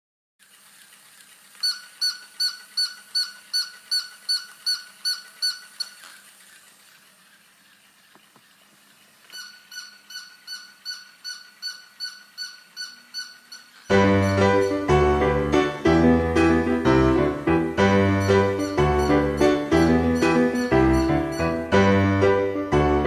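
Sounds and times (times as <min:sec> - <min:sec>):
short high-pitched squeaks: 0:00.5 - 0:15.7, 0:17.8 - 0:21.8.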